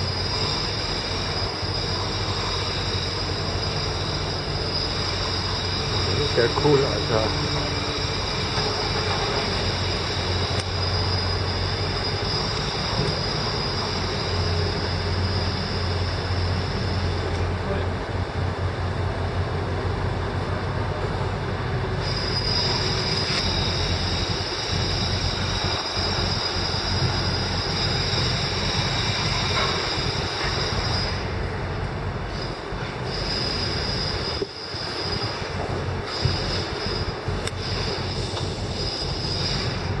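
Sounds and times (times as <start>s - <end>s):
high-pitched squeal: 0.0s - 17.9s, 21.8s - 40.0s
crane mechanical drone: 0.0s - 40.0s.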